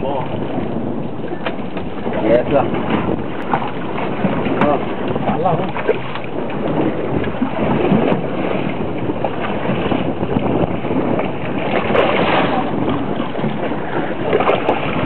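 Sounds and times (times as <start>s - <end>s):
choppy water against boat: 0.0s - 15.0s
wind noise on microphone: 0.0s - 15.0s.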